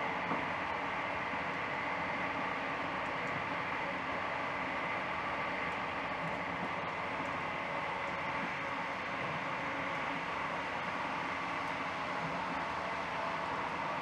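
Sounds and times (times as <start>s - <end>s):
faint steady hum: 0.0s - 14.0s
moving train running noise: 0.0s - 14.0s.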